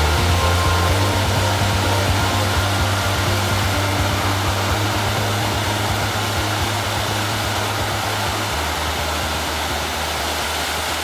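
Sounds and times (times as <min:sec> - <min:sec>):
low bass background music: 0:00.0 - 0:11.0
waterfall rushing: 0:00.0 - 0:11.0.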